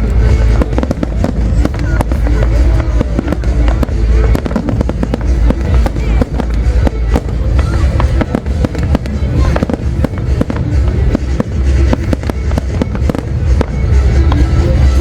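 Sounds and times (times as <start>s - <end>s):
deep steady rumble: 0.0s - 15.0s
fireworks bangs and crackling: 0.0s - 15.0s.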